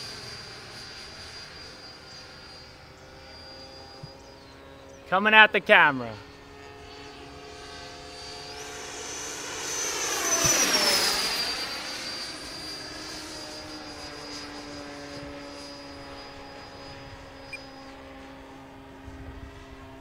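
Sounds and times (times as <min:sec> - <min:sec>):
model jet ducted fan whining: 0:00.0 - 0:20.0.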